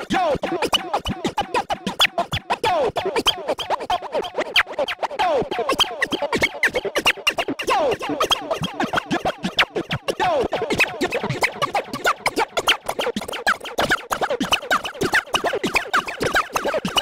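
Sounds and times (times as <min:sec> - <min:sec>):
turntable scratching: 0:00.0 - 0:17.0.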